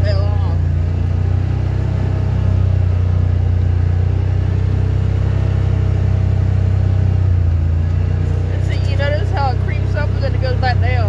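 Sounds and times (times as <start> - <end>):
utility vehicle engine droning: 0.0 - 11.0.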